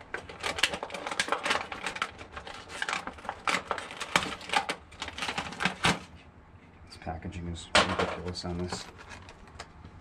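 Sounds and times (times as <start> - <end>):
plastic packaging crackling: 0.0 - 6.2, 7.8 - 9.8.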